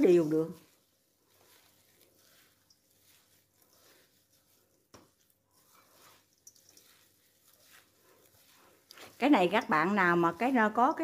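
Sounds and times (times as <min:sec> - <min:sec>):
dry strips rustling in metal bowl: 0:00.0 - 0:11.0.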